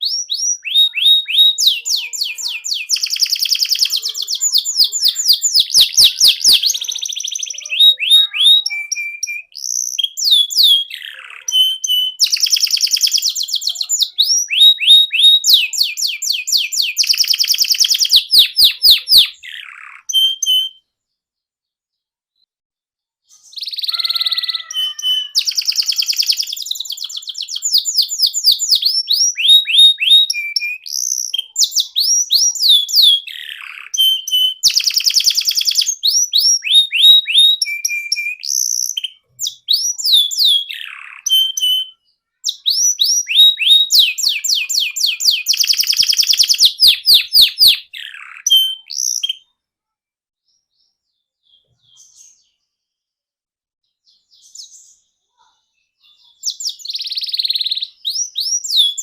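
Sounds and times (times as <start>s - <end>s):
canary singing: 0.0s - 21.2s, 23.2s - 49.6s, 56.0s - 59.0s.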